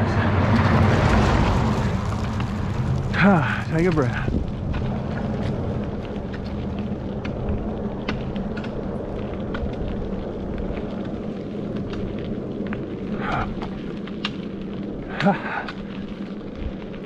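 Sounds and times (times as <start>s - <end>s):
bicycle tyres clicking on dirt: 0.0s - 17.0s
wind buffeting microphone: 0.0s - 17.0s.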